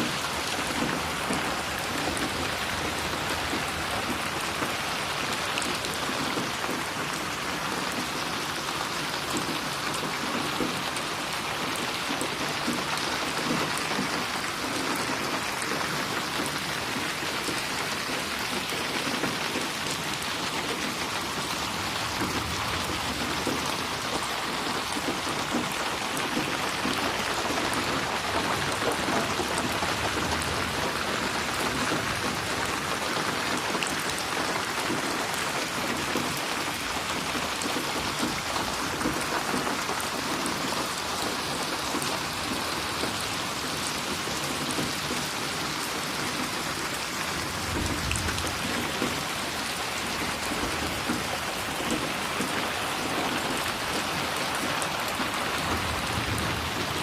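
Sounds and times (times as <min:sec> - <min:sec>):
rain splashing on a surface: 0:00.0 - 0:57.0.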